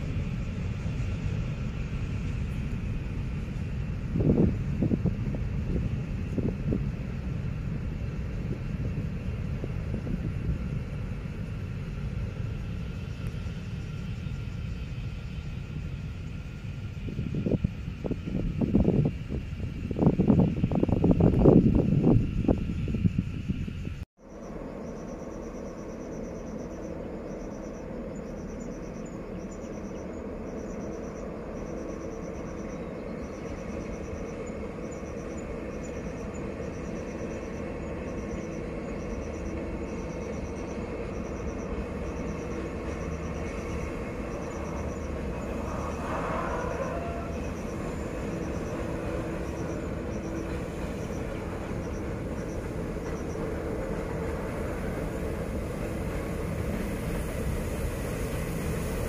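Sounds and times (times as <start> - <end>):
distant diesel locomotive rumble: 0.0 - 59.0.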